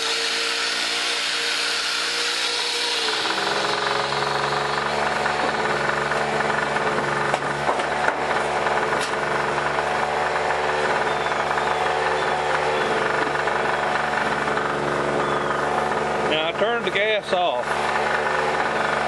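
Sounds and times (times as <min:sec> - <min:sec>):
angle grinder winding down: 0:00.0 - 0:19.0
generator engine running: 0:00.0 - 0:19.0.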